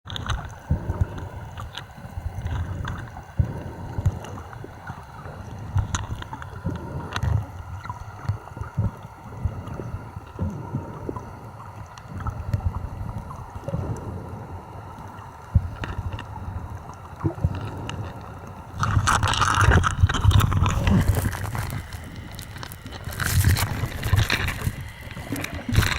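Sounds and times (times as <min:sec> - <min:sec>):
water sloshing and gurgling: 0:00.1 - 0:25.9.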